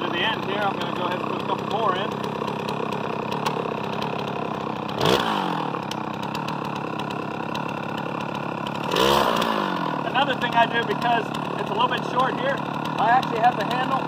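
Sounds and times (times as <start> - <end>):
chainsaw idling: 0.0 - 14.0
chainsaw throttle blip: 0.0 - 14.0.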